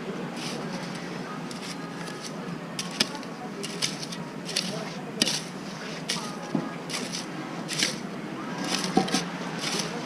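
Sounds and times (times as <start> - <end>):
excavator engine running: 0.0 - 10.0
scraping and crunching: 0.4 - 10.0.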